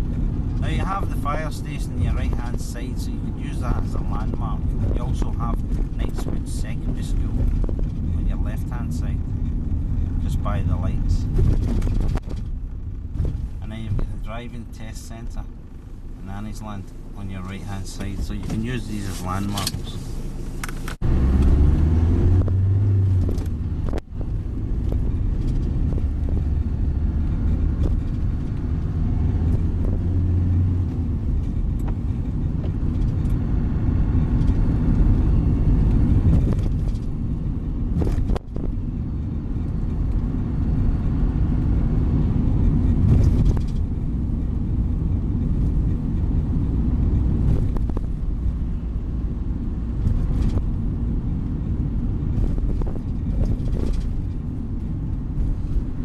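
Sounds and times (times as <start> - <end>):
deep engine rumble: 0.0 - 56.0.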